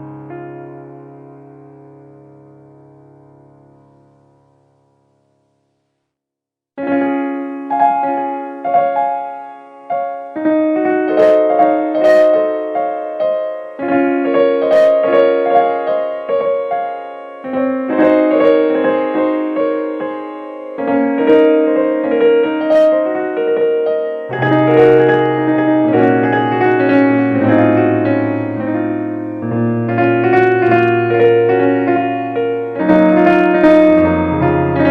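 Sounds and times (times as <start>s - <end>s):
slow piano music: 0.0s - 5.8s, 6.8s - 34.9s.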